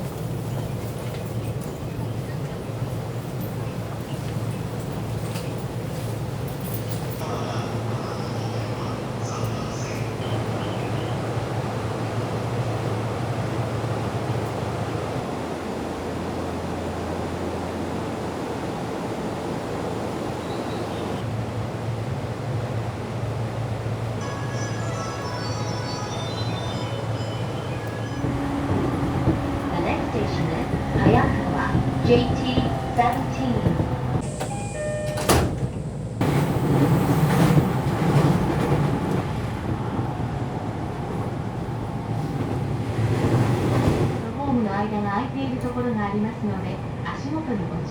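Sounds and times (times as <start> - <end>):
train running noise: 0.0 - 47.9.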